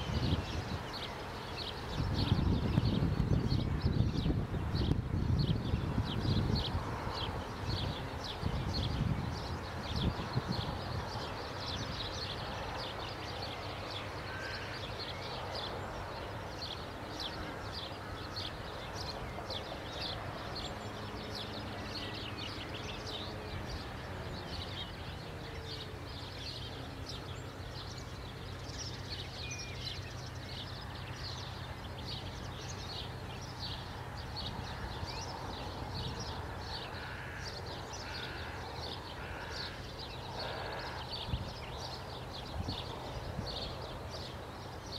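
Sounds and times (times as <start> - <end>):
small birds chirping: 0.0 - 44.9
bird calls: 5.6 - 44.9.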